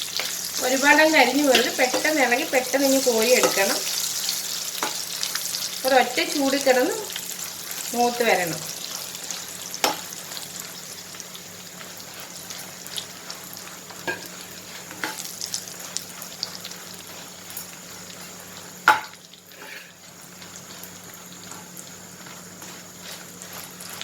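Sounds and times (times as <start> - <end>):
chillies sizzling in hot oil: 0.0 - 24.0.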